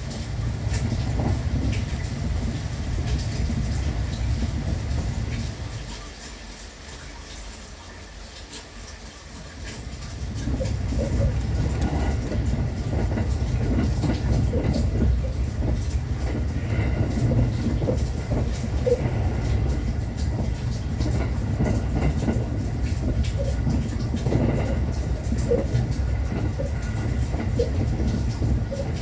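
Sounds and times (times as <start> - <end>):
wheels clicking on track: 0.0 - 6.1, 8.4 - 29.0
train rumbling on rails: 0.0 - 29.0.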